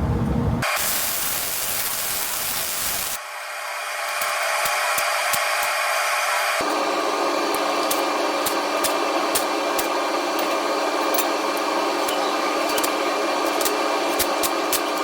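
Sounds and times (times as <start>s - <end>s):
fume extractor fan running: 0.0s - 15.0s.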